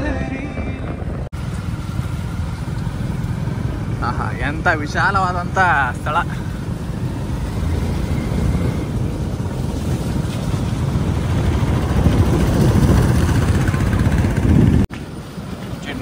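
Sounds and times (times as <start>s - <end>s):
vehicle moving: 0.0s - 16.0s
wind rumble on microphone: 0.0s - 16.0s.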